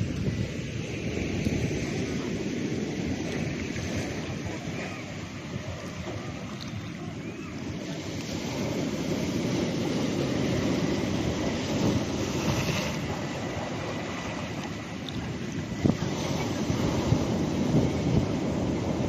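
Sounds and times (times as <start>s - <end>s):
surf breaking over rocks: 0.0s - 19.0s
wind buffeting microphone: 0.0s - 19.0s.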